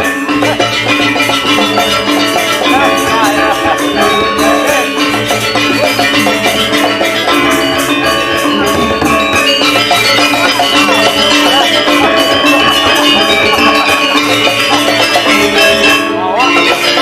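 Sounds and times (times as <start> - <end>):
drums: 0.0 - 17.0
gamelan metallophones ringing: 0.0 - 17.0.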